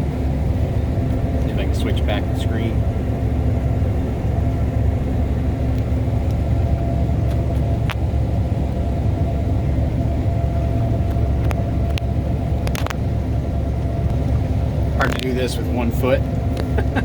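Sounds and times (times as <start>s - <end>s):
combine harvester machinery rumble: 0.0s - 17.0s.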